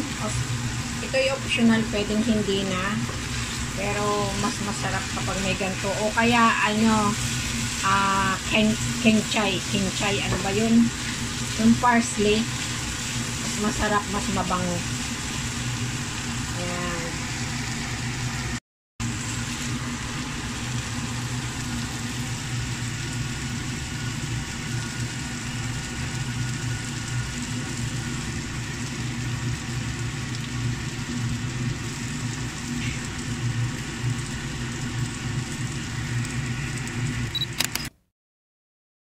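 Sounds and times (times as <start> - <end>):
kitchen fan humming: 0.0 - 37.6.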